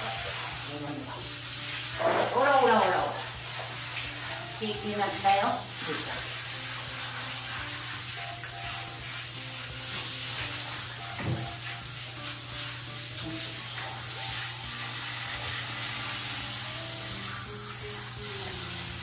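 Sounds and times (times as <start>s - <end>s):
shower head spraying water: 0.0s - 19.0s.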